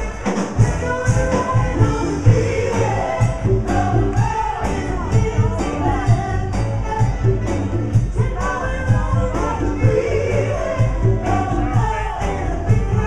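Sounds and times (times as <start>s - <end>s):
bass: 0.0s - 13.0s
steady drum beat: 0.0s - 13.0s
voices singing: 0.0s - 13.0s.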